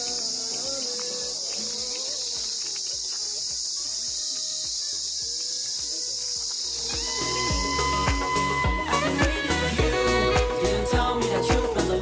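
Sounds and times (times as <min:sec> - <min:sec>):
faint music: 0:00.0 - 0:12.0
insects droning: 0:00.0 - 0:12.0.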